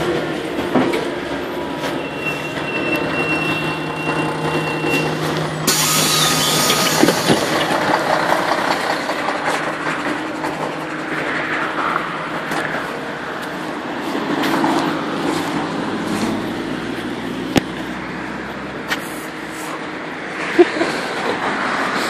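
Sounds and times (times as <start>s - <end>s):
street traffic: 0.0s - 22.0s
vehicle engine running: 2.5s - 22.0s.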